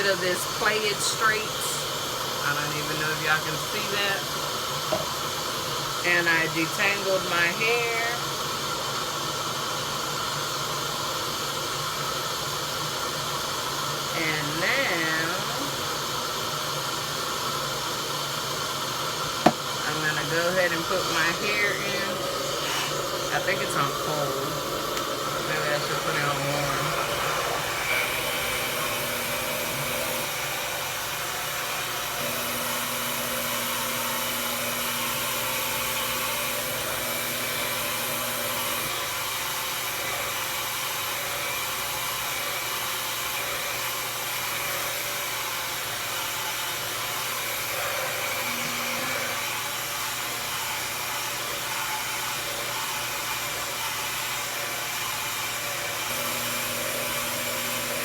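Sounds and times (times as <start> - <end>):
hair dryer suction airflow: 0.0 - 58.0.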